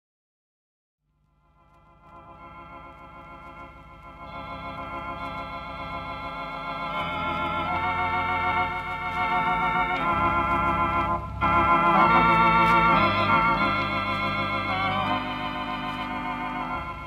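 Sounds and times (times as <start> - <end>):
organ chords with vibrato: 1.2 - 17.0.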